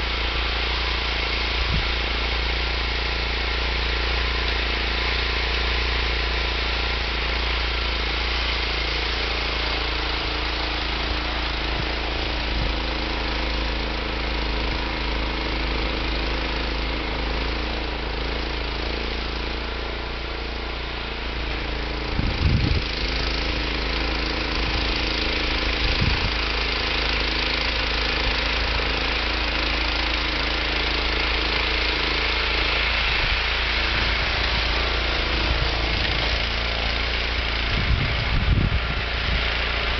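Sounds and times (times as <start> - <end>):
snow thrower engine running: 0.0 - 39.9.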